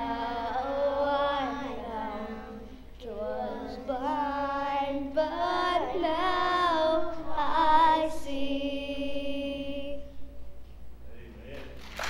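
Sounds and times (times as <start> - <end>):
children's choir singing: 0.0 - 10.0.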